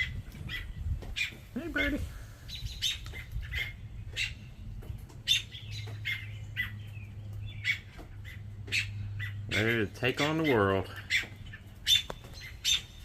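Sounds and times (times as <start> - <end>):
robins calling: 0.0 - 13.0.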